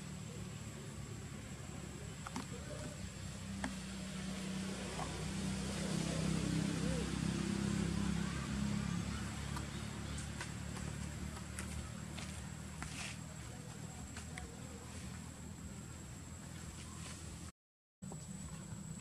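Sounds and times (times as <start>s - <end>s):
faint voices: 0.0s - 17.4s
low engine hum: 0.0s - 19.0s.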